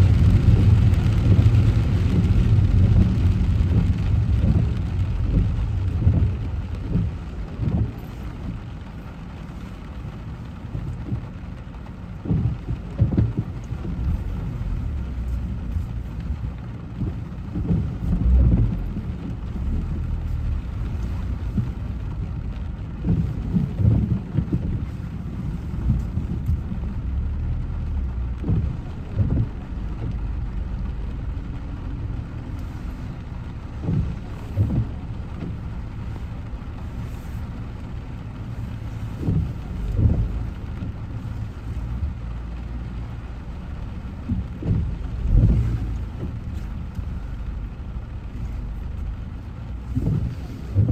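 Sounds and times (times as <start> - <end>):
car road rumble on wet road: 0.0 - 50.9.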